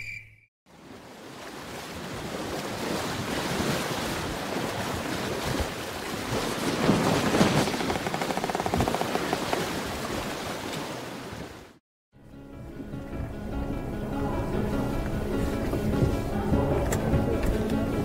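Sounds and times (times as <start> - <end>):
wind: 0.0 - 18.0
sea water splashing around boat: 0.7 - 11.8, 14.4 - 18.0.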